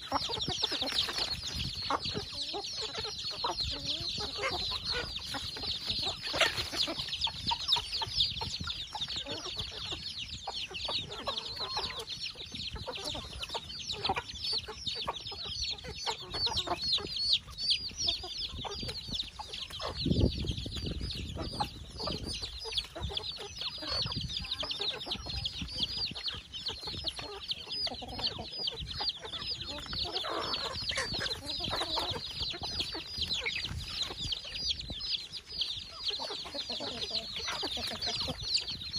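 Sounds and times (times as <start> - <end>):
chicks peeping: 0.0 - 38.9
hens clucking: 0.0 - 38.9.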